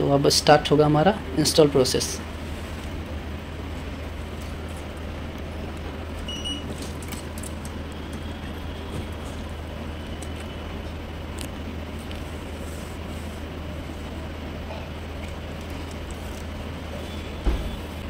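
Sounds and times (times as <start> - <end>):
machine hum and hiss: 0.0 - 18.0.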